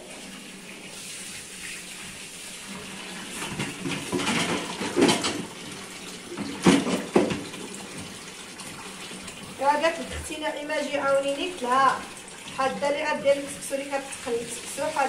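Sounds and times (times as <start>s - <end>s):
tap water splashing into basin: 2.7s - 15.0s.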